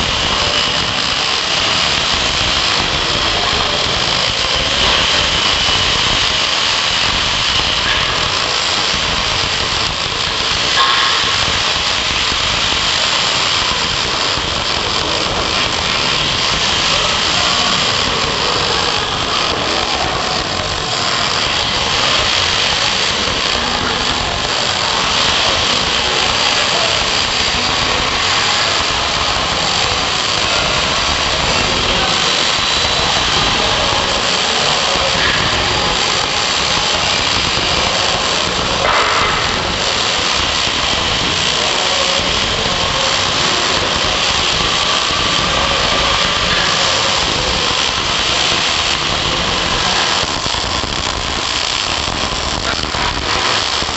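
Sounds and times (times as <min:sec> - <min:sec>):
welding arc crackling: 0:00.0 - 0:53.9.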